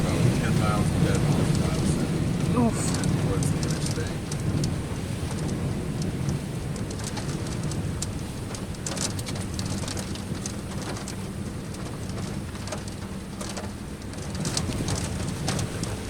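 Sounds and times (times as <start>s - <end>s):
rain striking a vehicle: 0.0s - 16.0s
steady low rumble: 0.0s - 16.0s.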